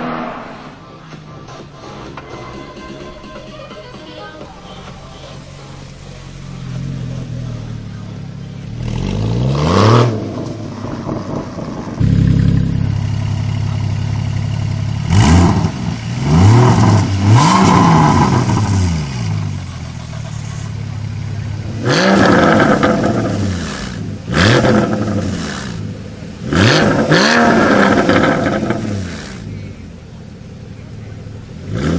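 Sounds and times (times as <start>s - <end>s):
sports car engine revving: 5.4s - 31.9s.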